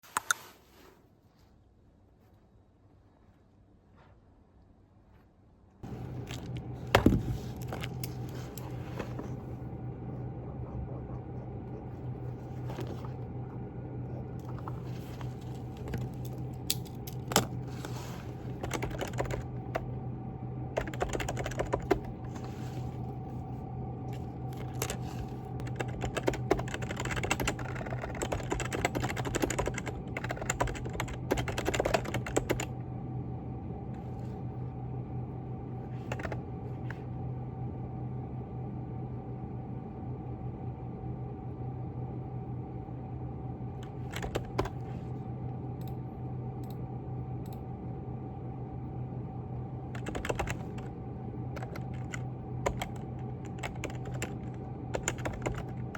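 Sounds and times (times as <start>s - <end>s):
steady low hum: 0.1s - 55.9s.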